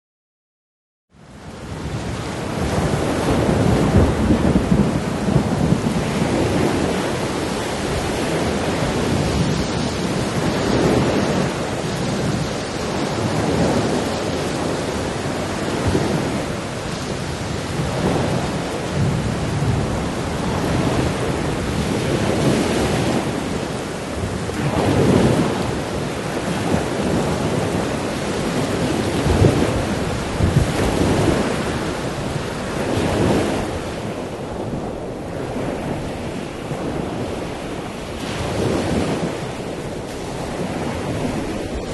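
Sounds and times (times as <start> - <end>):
heavy rain: 1.2 - 41.9
thunder rumbling: 1.7 - 41.9.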